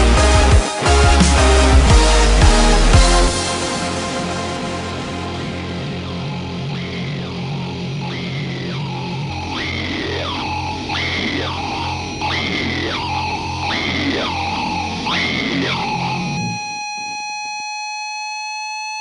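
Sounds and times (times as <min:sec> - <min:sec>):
distorted electronic music: 0:00.0 - 0:17.2
steady held tone: 0:00.8 - 0:17.8.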